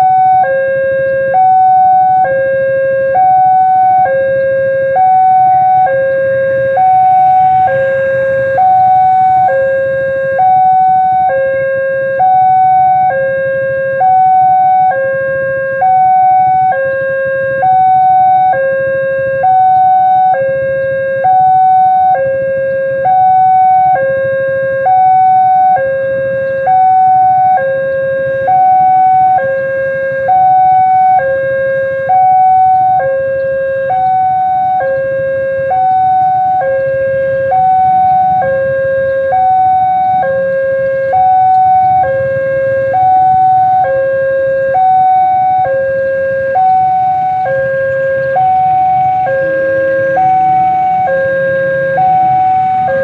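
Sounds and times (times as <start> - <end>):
level-crossing two-tone alarm: 0.0 - 53.0
low rumble of road vehicles: 0.0 - 53.0.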